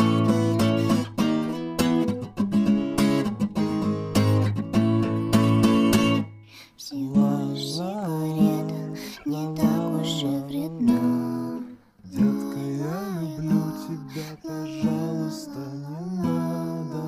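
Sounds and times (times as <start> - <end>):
guitar strumming chords: 0.0 - 6.4, 7.0 - 17.0.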